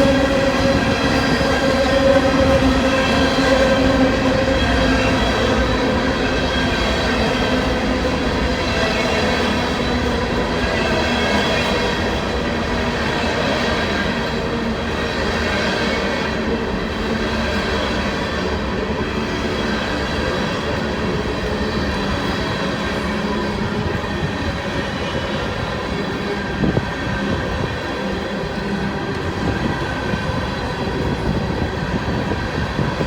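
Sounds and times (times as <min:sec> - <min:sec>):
train cars rumbling past: 0:00.0 - 0:33.0.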